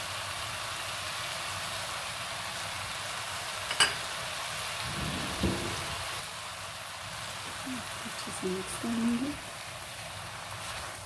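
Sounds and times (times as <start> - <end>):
noodles sizzling in a wok: 0.0 - 11.0.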